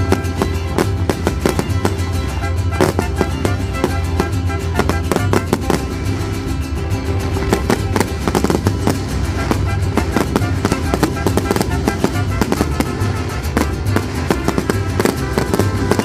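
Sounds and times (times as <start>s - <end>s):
fireworks crackling and popping: 0.0s - 16.0s
music playing: 0.0s - 16.0s.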